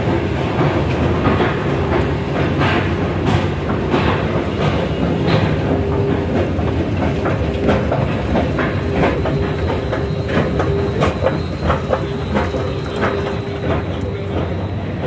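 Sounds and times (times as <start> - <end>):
escalator low rumble: 0.0 - 15.0
escalator steps clacking: 0.0 - 15.0.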